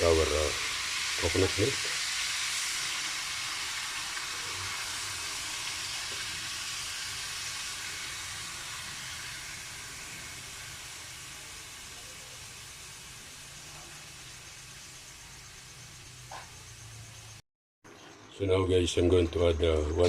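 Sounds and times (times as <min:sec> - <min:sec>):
frying pan sizzling: 0:00.0 - 0:17.4.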